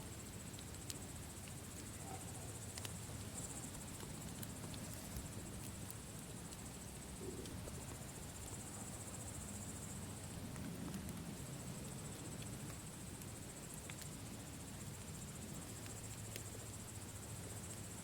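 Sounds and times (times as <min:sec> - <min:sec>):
campfire crackling: 0:00.0 - 0:18.0
crickets chirring: 0:00.0 - 0:18.0.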